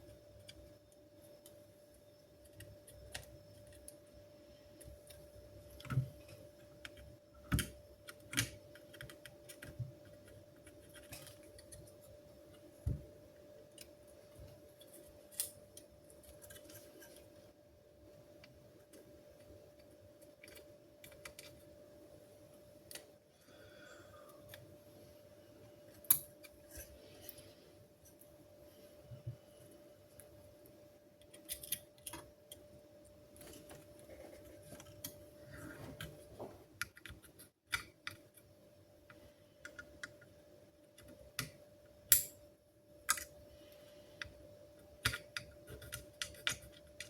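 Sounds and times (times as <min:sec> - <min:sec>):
faint steady whine: 0:00.0 - 0:47.0.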